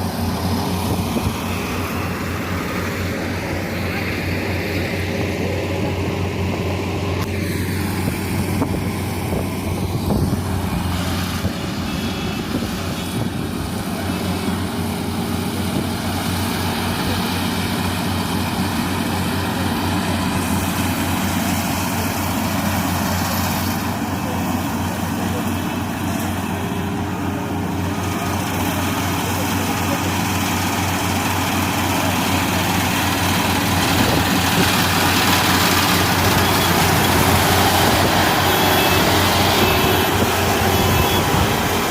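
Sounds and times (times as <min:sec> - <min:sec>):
combine harvester droning: 0:00.0 - 0:41.9.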